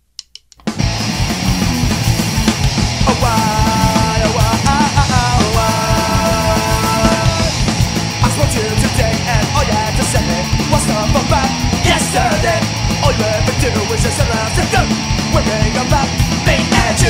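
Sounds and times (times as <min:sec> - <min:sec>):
pop-punk band playing: 0:00.7 - 0:17.0.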